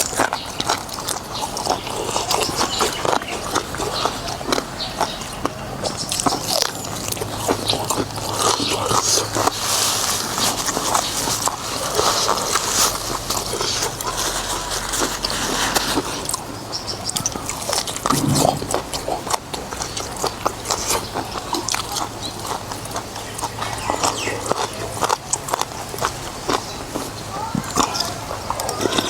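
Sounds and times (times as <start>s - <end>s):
wet chewing with smacks: 0.0s - 29.0s.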